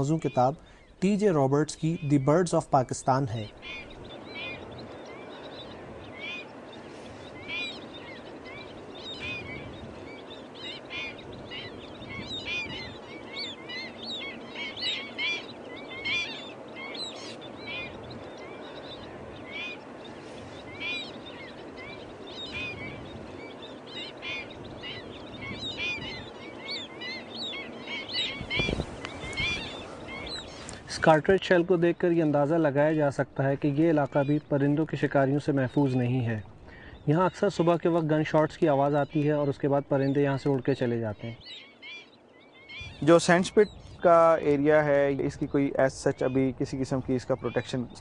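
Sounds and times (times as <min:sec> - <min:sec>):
flock of water birds calling: 0:00.0 - 0:48.0.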